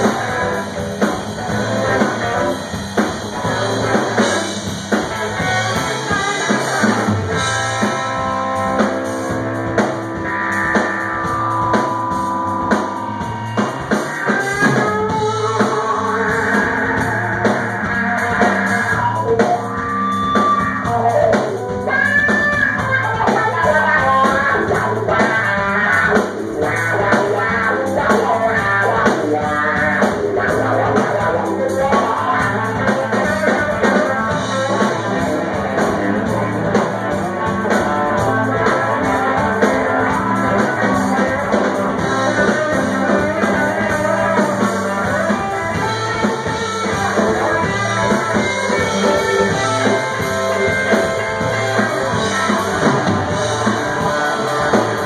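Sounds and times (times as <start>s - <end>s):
bass guitar: 0.0s - 55.0s
drum kit: 0.0s - 55.0s
electric guitar: 0.0s - 55.0s
keyboard: 0.0s - 55.0s.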